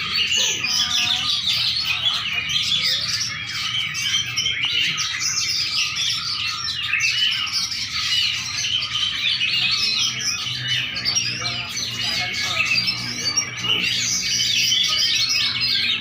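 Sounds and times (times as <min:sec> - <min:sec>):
songbird twittering song: 0:00.0 - 0:16.0.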